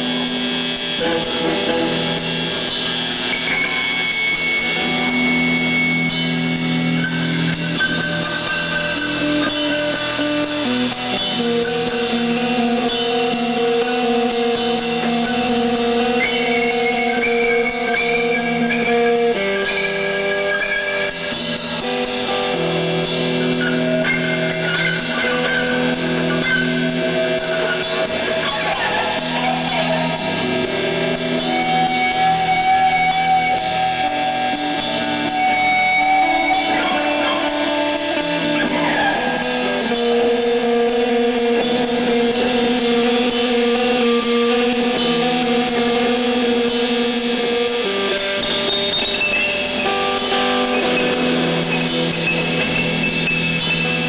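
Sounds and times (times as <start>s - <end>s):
drum kit cymbal strokes: 0.0s - 54.0s
electric guitar long notes: 0.0s - 54.0s.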